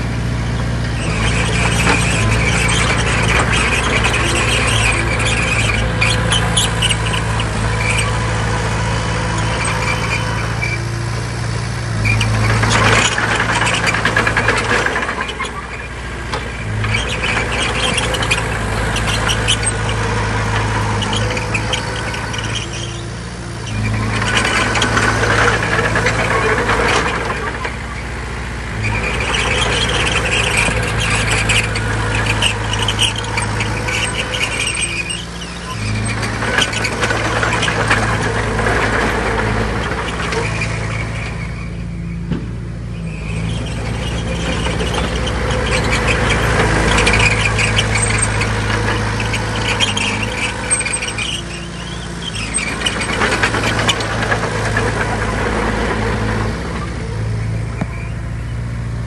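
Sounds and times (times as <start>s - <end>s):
bulldozer engine under load: 0.0s - 59.0s
metallic squeal and clatter: 0.0s - 59.0s.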